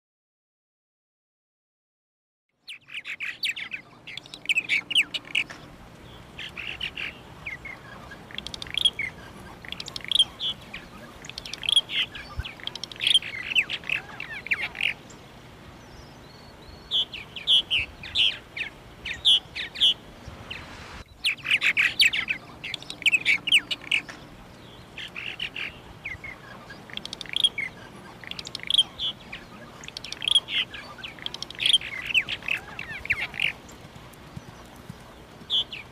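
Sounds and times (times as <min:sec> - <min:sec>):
birds chirping: 0:02.6 - 0:35.9.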